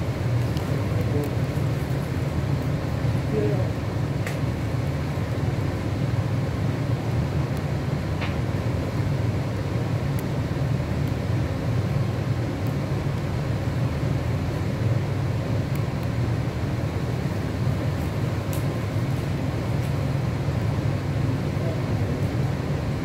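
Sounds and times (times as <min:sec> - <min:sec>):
low-pitched background hum: 0:00.0 - 0:23.0.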